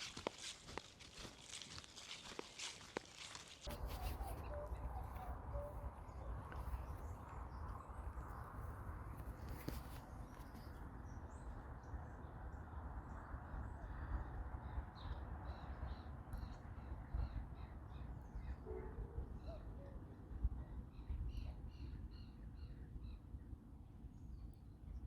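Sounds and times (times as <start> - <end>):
birds chirping: 1.5 - 23.3.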